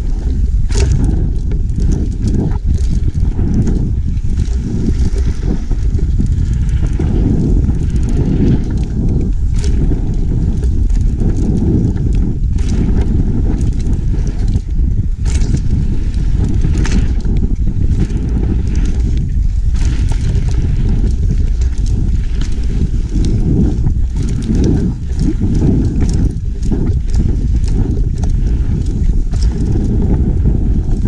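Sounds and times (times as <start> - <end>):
bike rattling over bumps: 0.0 - 31.0
wind buffeting microphone: 0.0 - 31.0.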